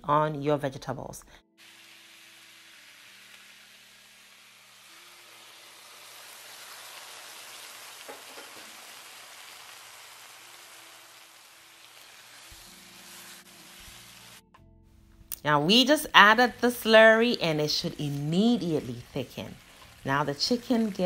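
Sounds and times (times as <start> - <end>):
vegetables sizzling in hot oil: 1.6 - 14.5, 15.4 - 21.0.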